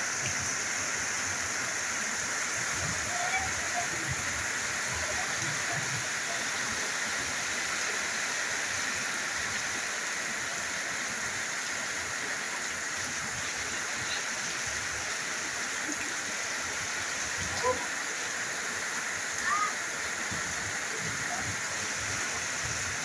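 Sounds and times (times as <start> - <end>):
rain on metal roofs and foliage: 0.0 - 23.0.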